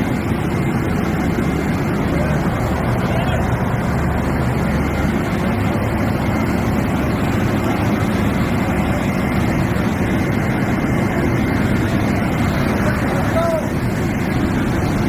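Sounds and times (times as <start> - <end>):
locomotive engine running: 0.0 - 15.0.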